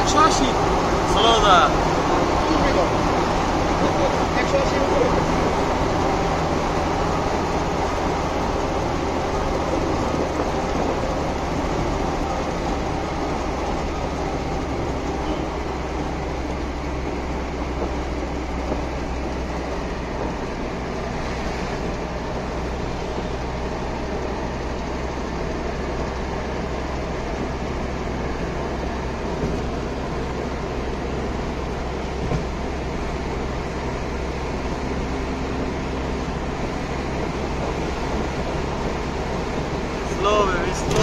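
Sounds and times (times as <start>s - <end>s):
car driving on highway interior: 0.0s - 41.0s.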